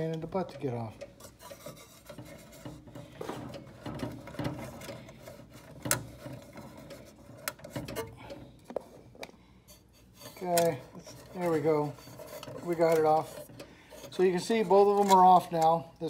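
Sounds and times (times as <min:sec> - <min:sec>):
rustling and scraping wires: 0:00.0 - 0:16.0.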